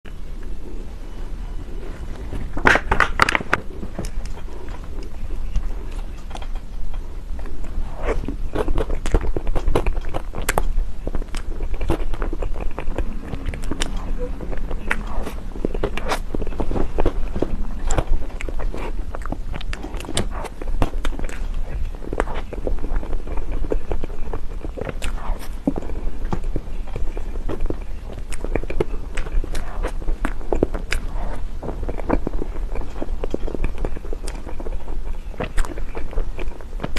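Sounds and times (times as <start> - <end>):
cake being chewed: 0.4 - 36.9
mouth clicks and smacks: 2.5 - 36.9.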